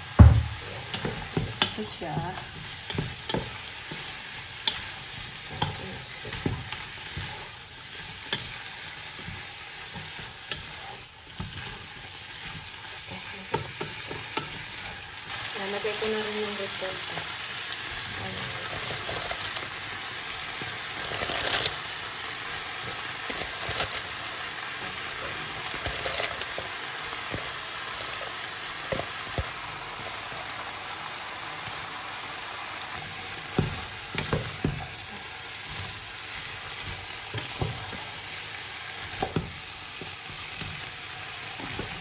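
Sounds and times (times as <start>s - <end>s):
food sizzling in a pot: 0.0s - 42.0s
stirring with wooden spatula: 0.0s - 42.0s.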